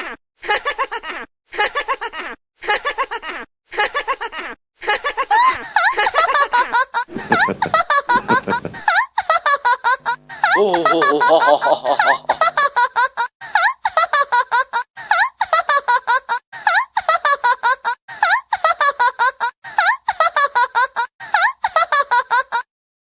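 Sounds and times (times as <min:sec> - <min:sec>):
high-pitched cackling laugh: 0:00.0 - 0:22.7.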